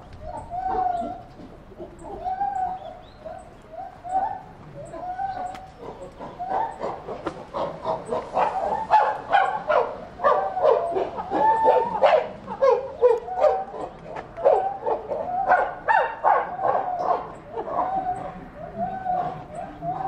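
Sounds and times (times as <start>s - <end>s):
chimpanzees calling: 0.0s - 20.0s.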